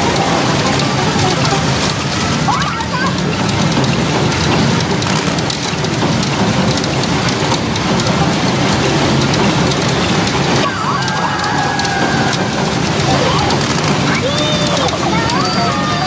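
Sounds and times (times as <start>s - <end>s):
steel balls clattering: 0.0s - 16.0s.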